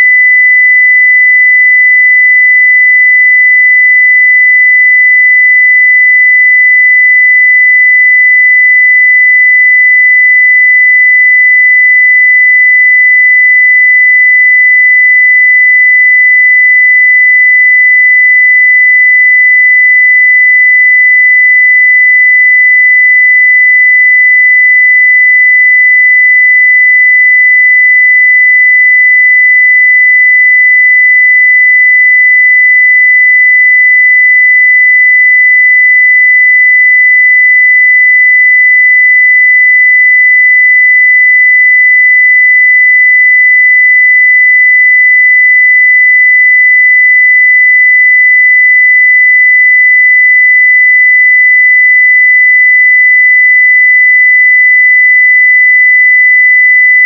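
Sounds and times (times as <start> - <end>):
sine wave test tone: 0.0 - 57.0.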